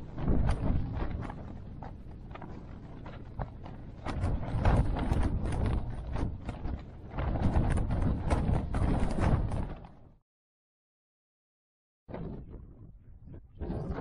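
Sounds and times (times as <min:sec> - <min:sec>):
low rumble of wind: 0:00.0 - 0:10.2, 0:12.1 - 0:14.0
tent fabric flapping in wind: 0:00.0 - 0:10.2, 0:12.1 - 0:14.0.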